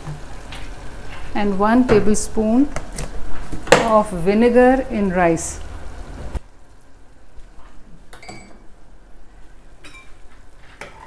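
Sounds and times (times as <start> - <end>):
water boiling: 0.0 - 11.0.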